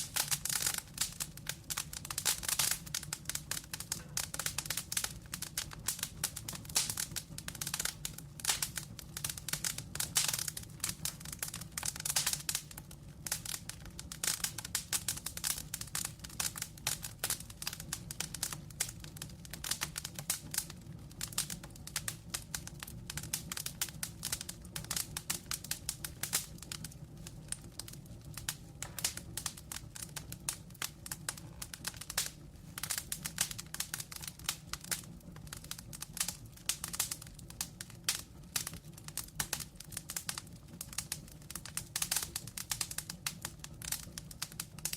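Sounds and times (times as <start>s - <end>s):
low roar of flame: 0.0s - 44.9s
wood fire crackling: 0.0s - 44.9s.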